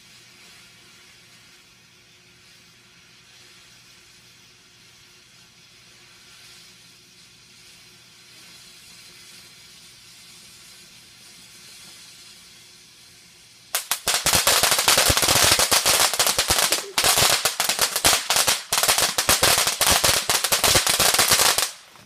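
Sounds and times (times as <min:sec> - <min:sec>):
firework crackling pops: 0:00.0 - 0:22.0
firework hissing: 0:00.0 - 0:22.0.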